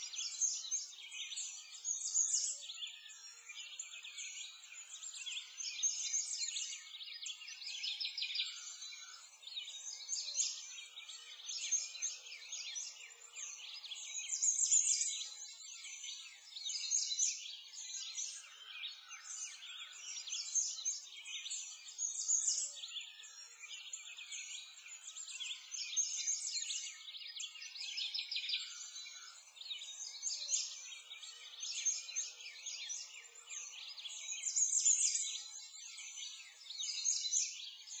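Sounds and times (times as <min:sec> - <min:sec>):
songbirds chirping and singing: 0:00.0 - 0:38.0.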